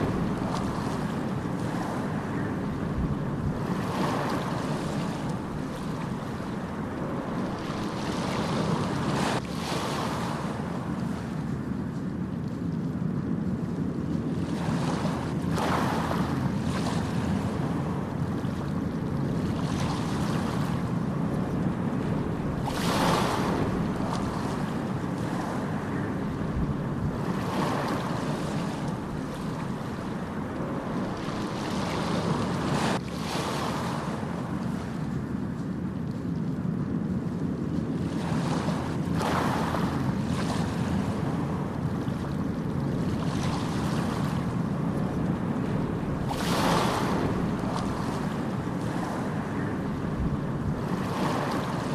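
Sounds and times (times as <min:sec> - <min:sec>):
low rumble of waves: 0:00.0 - 0:51.9
wave surging and washing in: 0:00.0 - 0:51.9.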